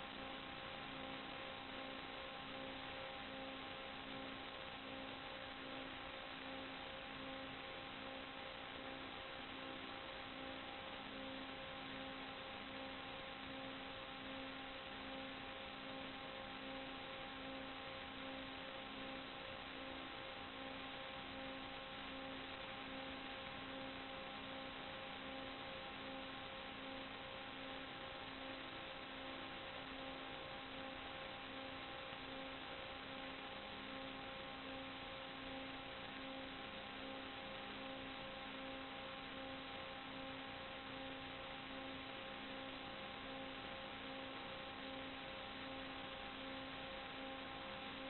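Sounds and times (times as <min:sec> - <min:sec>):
low electronic hum: 0:00.0 - 0:48.0.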